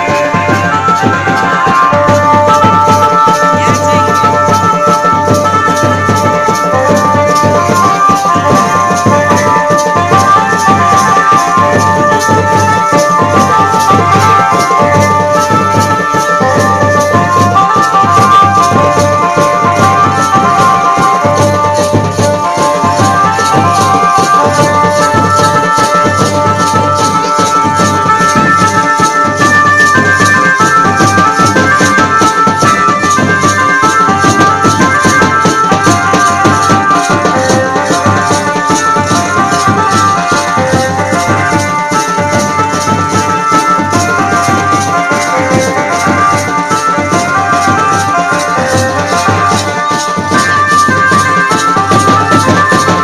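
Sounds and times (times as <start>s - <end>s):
held-note folk melody: 0.0s - 53.0s
shaker: 0.0s - 53.0s
steady drum beat: 0.0s - 53.0s.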